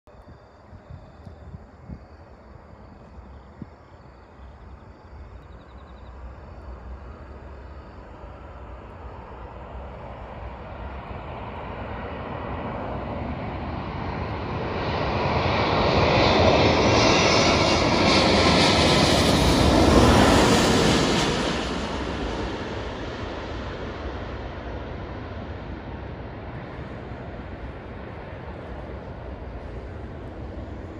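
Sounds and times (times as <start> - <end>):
jet airliner roar with whine: 0.1 - 30.9.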